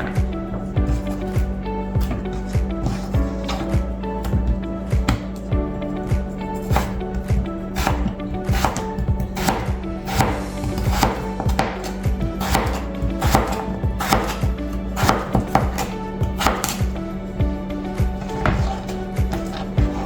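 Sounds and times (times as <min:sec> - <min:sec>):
knife cutting potatoes: 0:00.0 - 0:17.0, 0:17.9 - 0:20.0
background music: 0:00.0 - 0:20.0.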